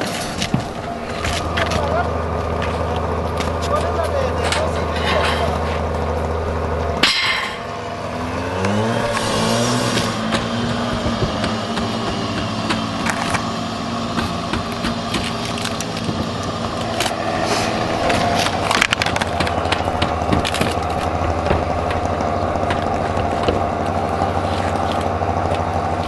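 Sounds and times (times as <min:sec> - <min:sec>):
motor running: 0:00.2 - 0:26.0.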